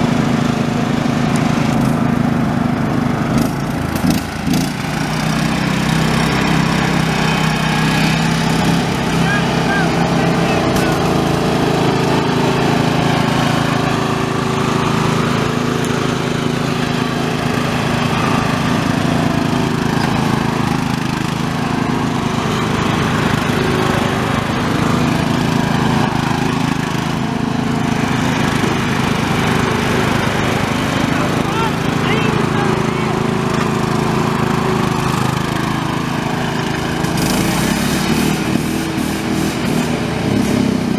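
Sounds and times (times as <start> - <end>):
riding lawn mower engine: 0.0 - 40.9.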